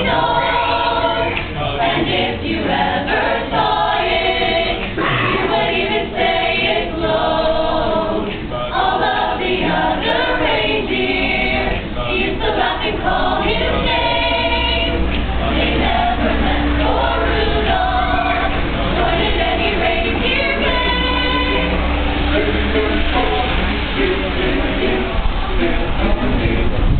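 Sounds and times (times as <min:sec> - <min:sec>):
choir of women singing: 0:00.0 - 0:25.9.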